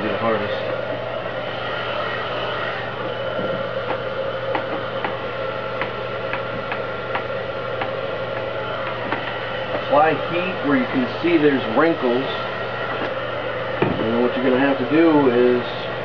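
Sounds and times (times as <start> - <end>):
heat gun motor whine: 0.0 - 16.0.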